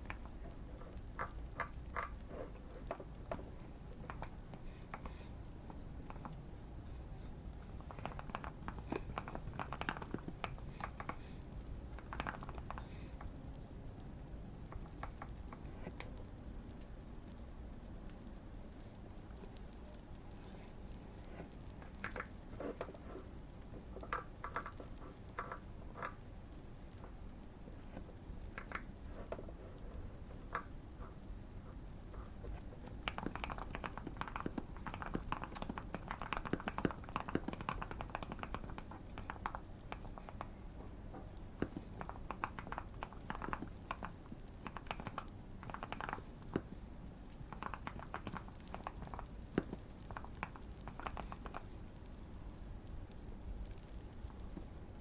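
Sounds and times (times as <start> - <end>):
fireplace crackling: 0.0 - 55.0.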